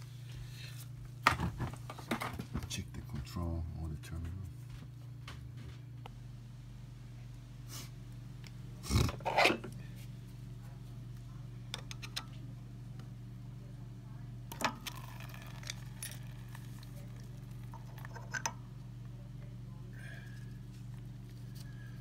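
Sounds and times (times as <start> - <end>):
burner motor humming: 0.0 - 22.0.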